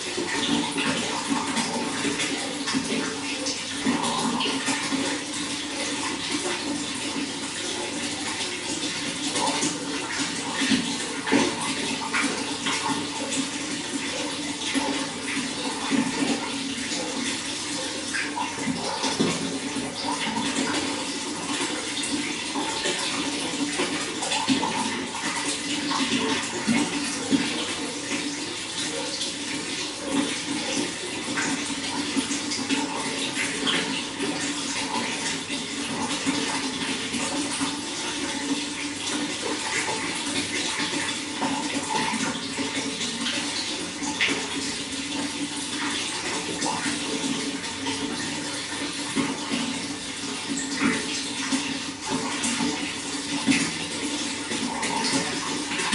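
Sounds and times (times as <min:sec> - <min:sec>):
running water splashing: 0:00.0 - 0:55.9.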